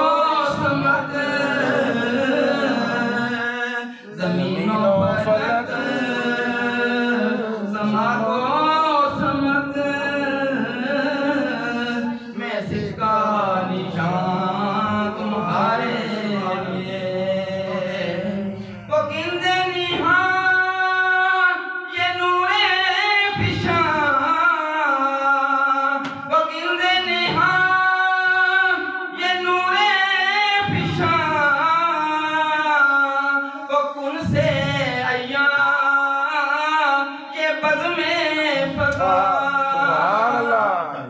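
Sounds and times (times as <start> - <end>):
man singing unaccompanied: 0.0 - 41.0.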